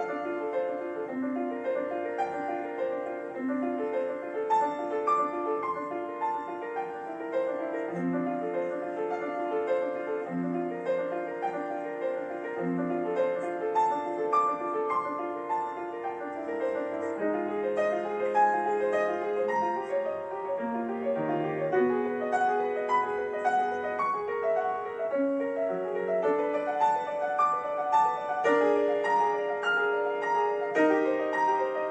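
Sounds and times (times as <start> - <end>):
solo classical piano piece: 0.0 - 31.9.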